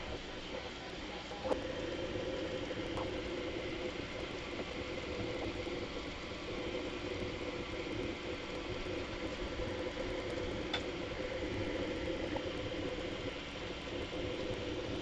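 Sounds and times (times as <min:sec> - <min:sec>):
three d printer fans and motors whirring: 0:00.0 - 0:15.0.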